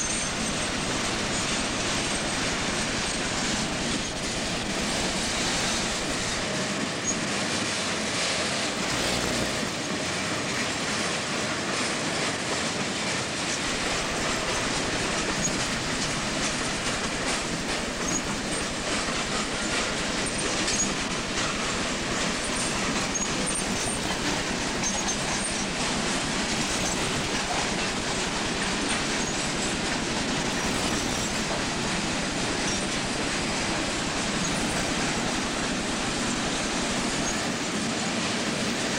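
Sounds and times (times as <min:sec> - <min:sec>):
wheel squeaks: 0:00.0 - 0:07.3, 0:13.5 - 0:37.6
freight train cars rolling past: 0:00.0 - 0:38.9.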